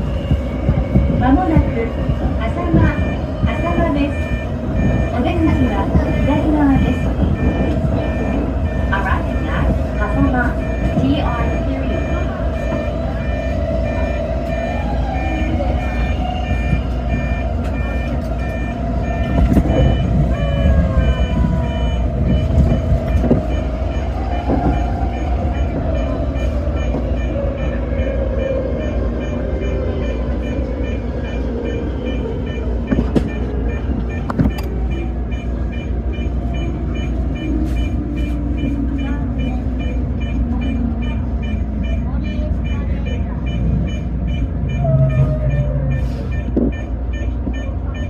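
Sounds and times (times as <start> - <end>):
train rumble: 0.0 - 48.0.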